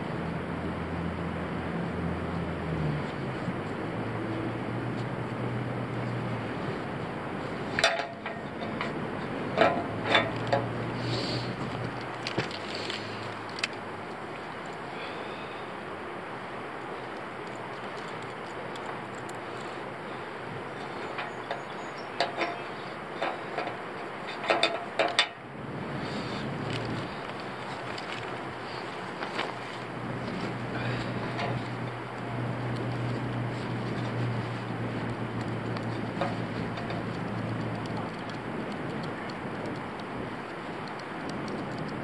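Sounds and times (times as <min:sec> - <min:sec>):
low background hum and rush: 0:00.0 - 0:42.0.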